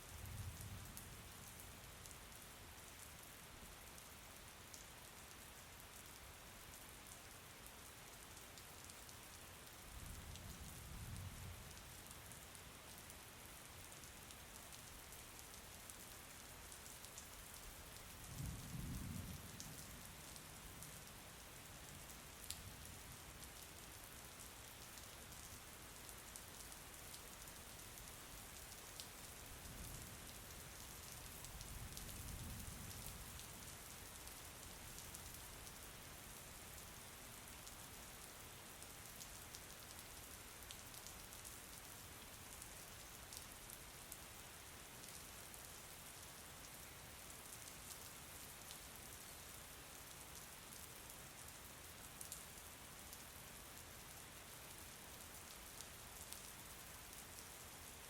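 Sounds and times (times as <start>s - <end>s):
steady rain falling: 0.0s - 58.0s
sharp raindrop ticks: 0.3s - 51.5s, 52.2s - 54.2s, 55.0s - 57.8s.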